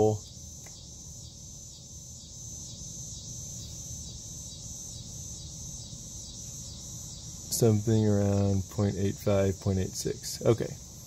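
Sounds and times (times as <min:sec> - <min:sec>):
crickets trilling: 0:00.0 - 0:11.0
low room noise rumble: 0:00.0 - 0:11.0.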